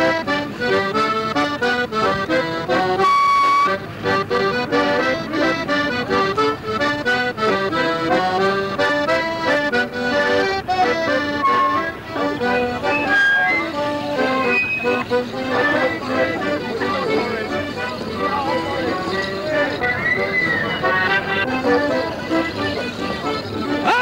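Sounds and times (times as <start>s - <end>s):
piano accordion playing brisk tune: 0.0s - 24.0s.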